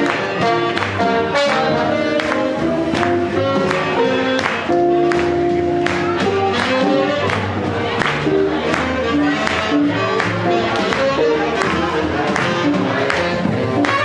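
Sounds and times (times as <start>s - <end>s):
swing jazz band playing: 0.0s - 14.0s.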